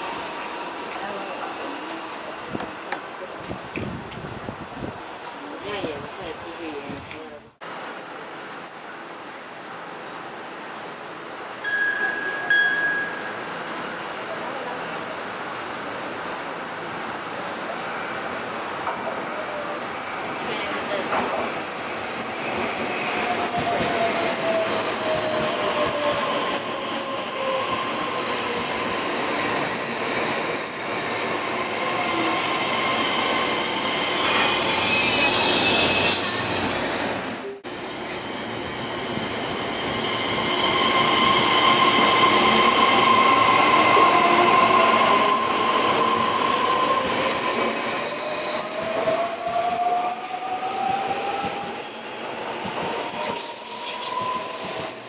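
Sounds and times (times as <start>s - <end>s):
train rolling noise: 6.9s - 55.0s
train wheels squealing on rails: 7.6s - 55.0s.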